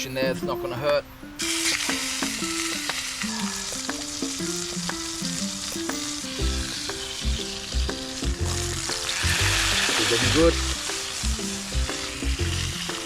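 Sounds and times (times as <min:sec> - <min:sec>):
background music with melody: 0:00.0 - 0:13.0
steak sizzling over fire: 0:00.0 - 0:13.0
low beat: 0:01.8 - 0:13.0.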